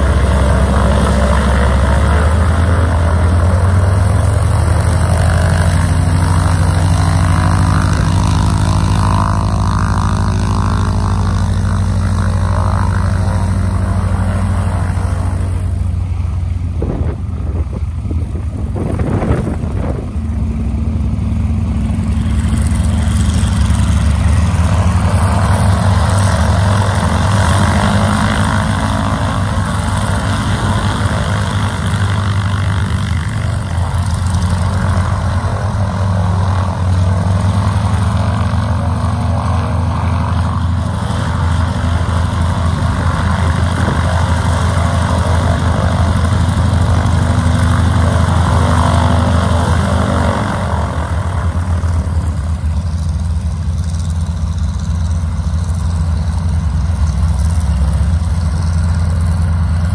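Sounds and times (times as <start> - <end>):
propeller plane engine rumbling: 0.0 - 59.9.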